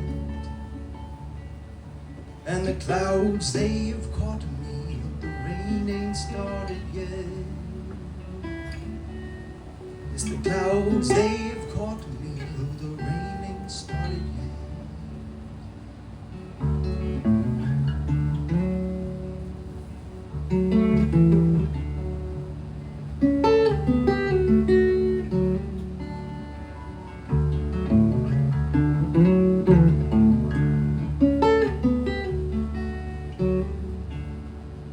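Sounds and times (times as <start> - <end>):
acoustic guitar plucking: 0.0 - 34.9.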